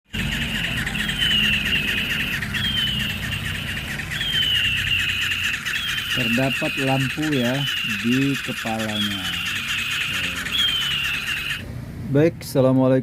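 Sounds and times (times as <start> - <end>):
electronic eagle screech: 0.1 - 11.6
steady low hum: 0.1 - 12.6.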